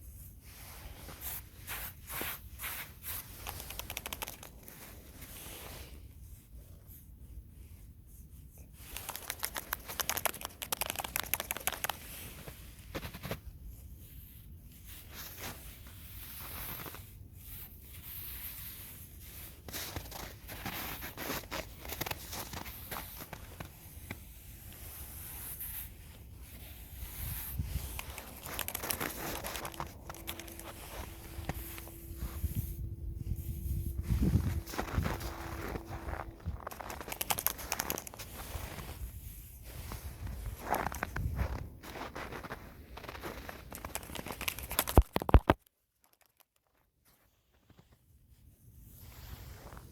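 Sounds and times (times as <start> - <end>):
faint steady hum: 0.0 - 45.6
crackling rustling and scraping: 0.0 - 49.9.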